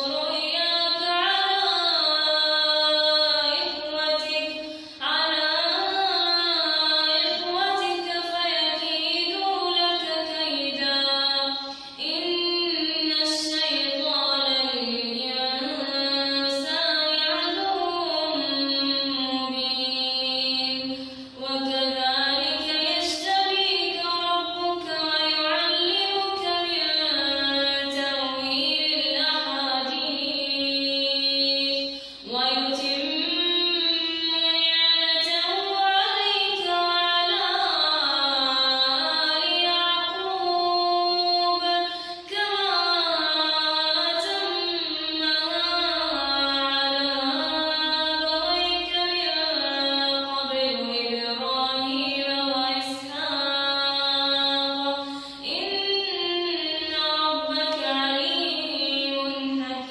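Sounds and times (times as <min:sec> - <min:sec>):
girl chanting melodically: 0:00.0 - 0:59.9.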